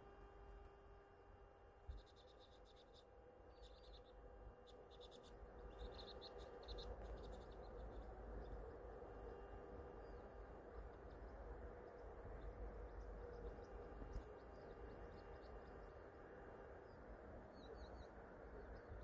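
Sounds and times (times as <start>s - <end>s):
low steady hum: 0.0s - 19.0s
small birds chirping: 1.8s - 19.0s.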